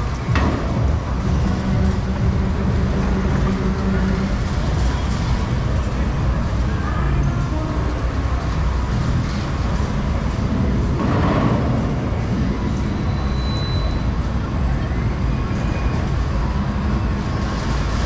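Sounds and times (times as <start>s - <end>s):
fairground ride rumbling: 0.0s - 18.0s.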